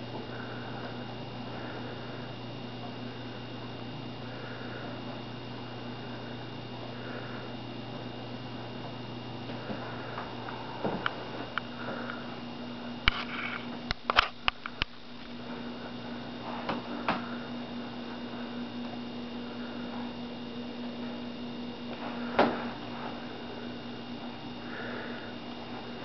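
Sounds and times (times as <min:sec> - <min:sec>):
electrical room hum: 0:00.0 - 0:26.0.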